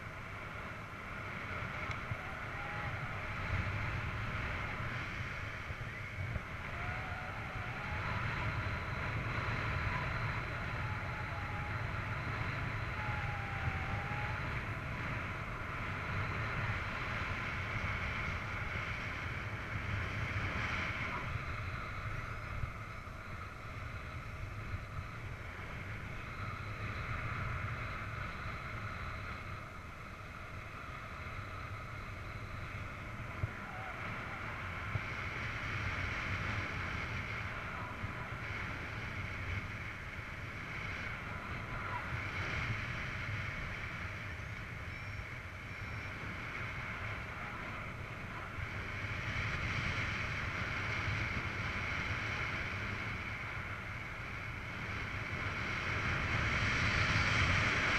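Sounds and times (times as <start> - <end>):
wind rushing on microphone: 0.0 - 57.9.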